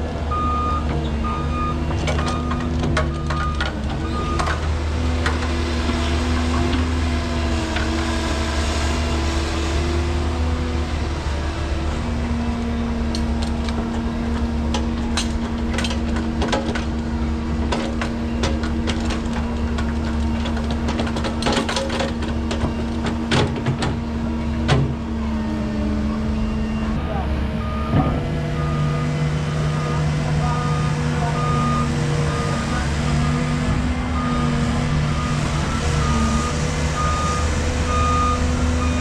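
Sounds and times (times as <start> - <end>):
construction machinery droning: 0.0 - 39.0.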